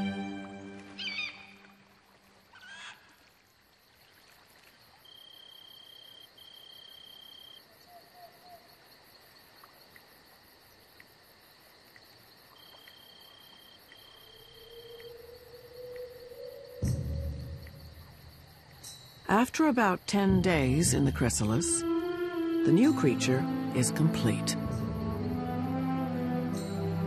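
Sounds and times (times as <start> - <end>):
crickets chirping: 1.0 - 27.0
insect trills: 1.0 - 27.0.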